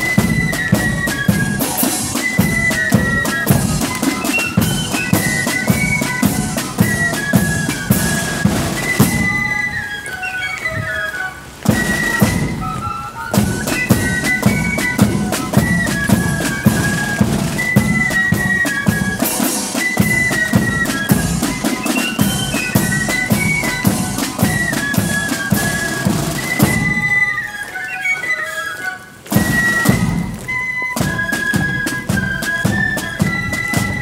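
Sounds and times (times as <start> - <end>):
side drums rattling: 0.0 - 9.8, 11.6 - 27.3, 29.3 - 34.0
flutes playing melody: 0.0 - 34.0.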